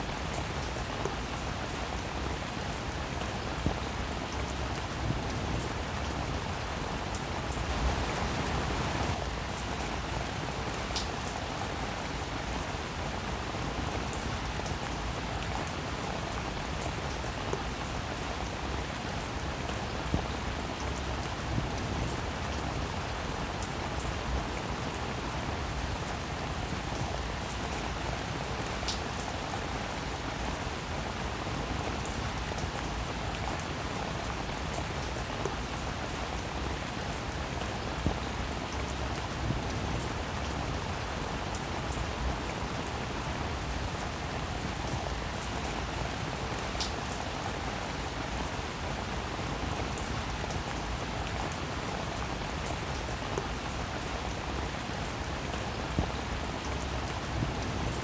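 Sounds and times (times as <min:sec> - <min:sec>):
steady rain hiss: 0:00.0 - 0:58.0
raindrops ticking on a surface: 0:00.1 - 0:58.0.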